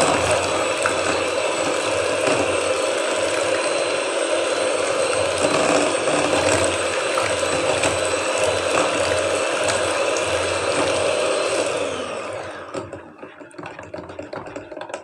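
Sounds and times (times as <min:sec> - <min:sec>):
electric hand mixer whisking: 0:00.0 - 0:15.0.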